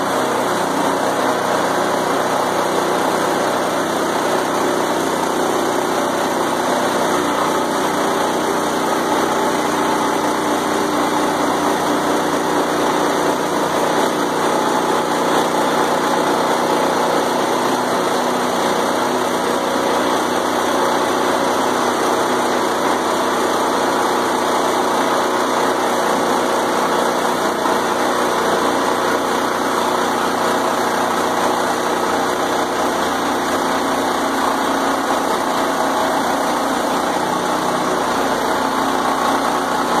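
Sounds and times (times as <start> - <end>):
small gasoline engine running: 0.0 - 40.0.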